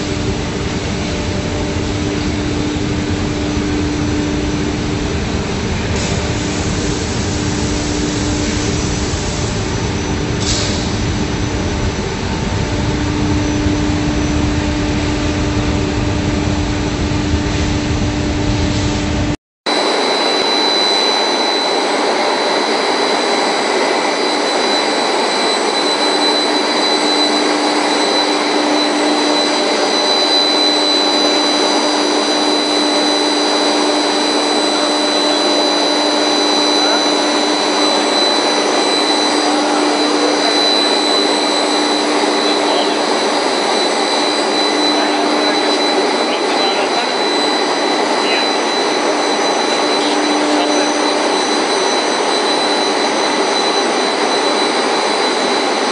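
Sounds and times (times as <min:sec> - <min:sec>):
high machine whine: 0:00.0 - 0:55.9
machinery running: 0:00.0 - 0:55.9.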